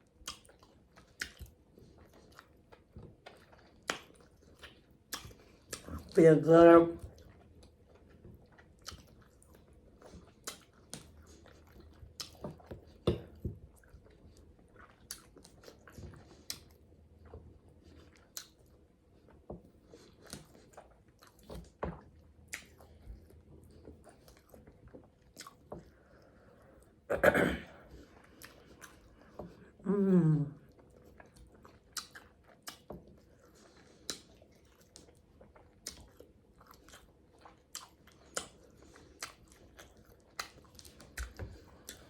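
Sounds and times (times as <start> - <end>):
mouth chewing food: 0.0 - 27.1, 27.7 - 42.0.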